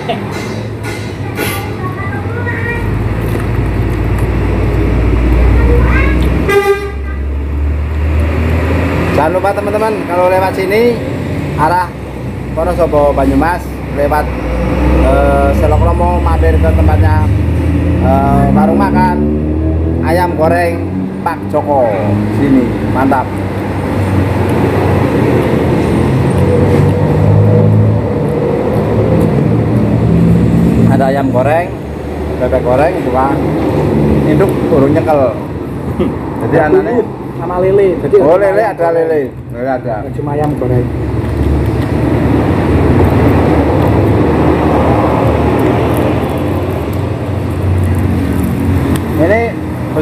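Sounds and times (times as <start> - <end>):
road noise: 0.0 - 50.0
vehicle engine passing: 0.0 - 50.0.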